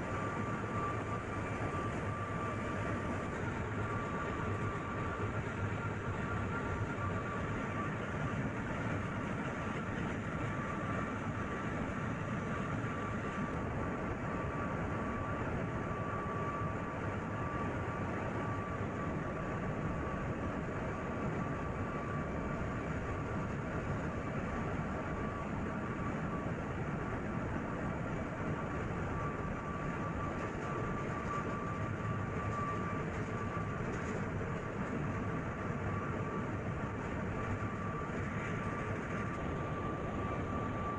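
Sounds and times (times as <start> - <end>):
steady high whine: 0.0 - 40.9.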